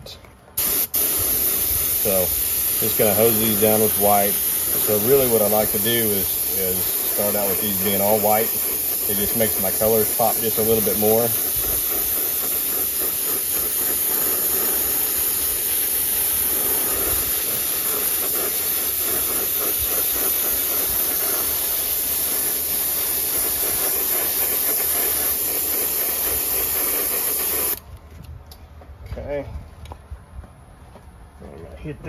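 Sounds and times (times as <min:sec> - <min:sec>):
airbrush spraying hiss: 0:00.6 - 0:27.8.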